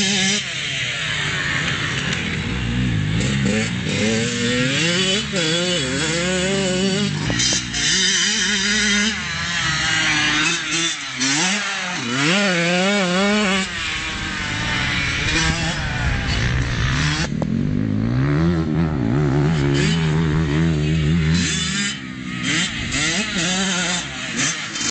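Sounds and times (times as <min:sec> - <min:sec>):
motocross bike engine revving: 0:00.0 - 0:24.9.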